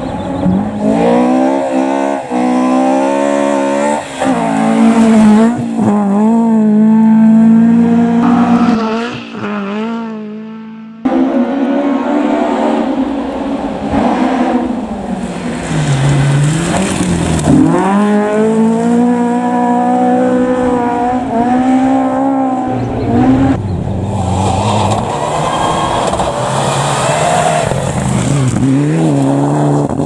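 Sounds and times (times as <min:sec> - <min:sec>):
rally car engine at high revs: 0:00.0 - 0:30.0.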